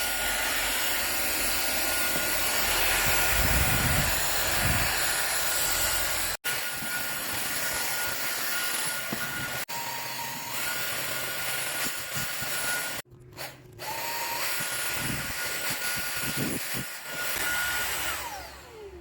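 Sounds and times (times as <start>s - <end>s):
vacuum motor winding down: 0.0s - 15.2s, 15.8s - 19.0s
stick vacuum whining: 0.0s - 19.0s.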